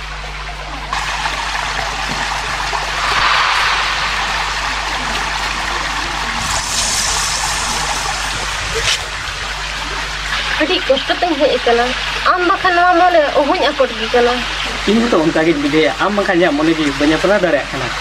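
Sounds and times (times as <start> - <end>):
steady low hum: 0.0 - 15.2
running water rushing: 0.0 - 18.0.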